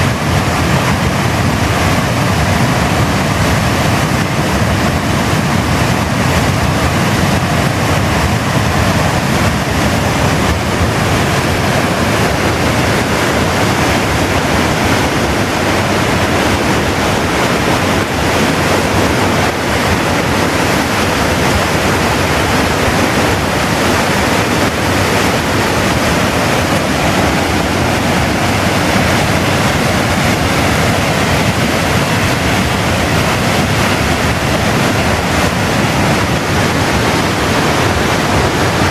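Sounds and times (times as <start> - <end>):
river rushing over a weir: 0.0 - 38.9.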